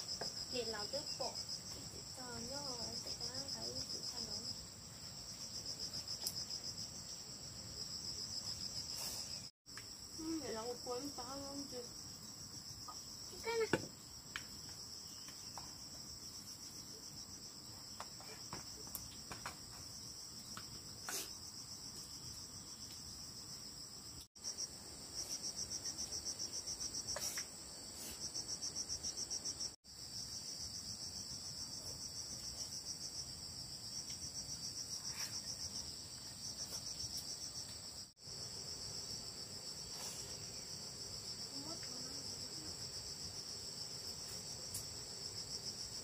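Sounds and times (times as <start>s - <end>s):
insects trilling: 0.0s - 46.0s.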